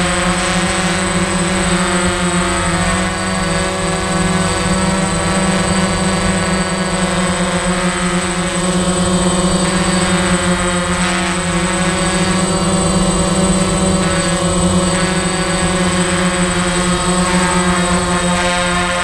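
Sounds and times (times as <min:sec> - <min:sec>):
drone motors humming: 0:00.0 - 0:19.0
thin high whine: 0:00.0 - 0:19.0.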